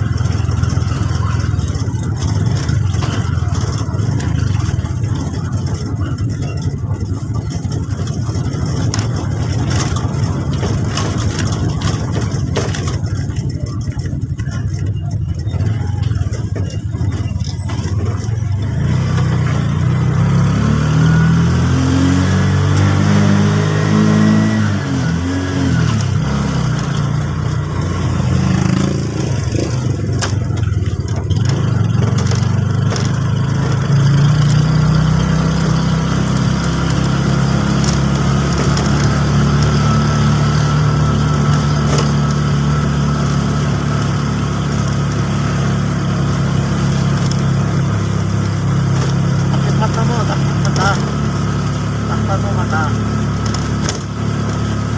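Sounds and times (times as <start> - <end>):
road noise: 0.0 - 54.9
small vehicle engine running: 0.0 - 54.9.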